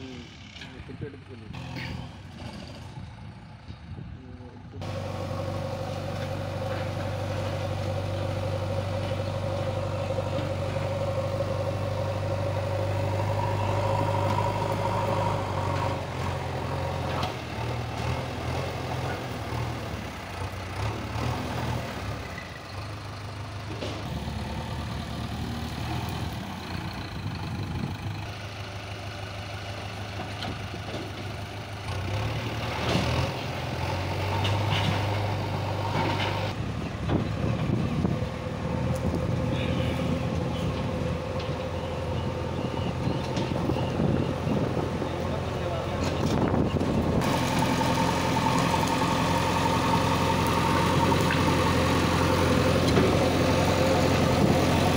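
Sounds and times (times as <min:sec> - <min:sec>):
diesel engine under load: 0:00.0 - 0:54.9.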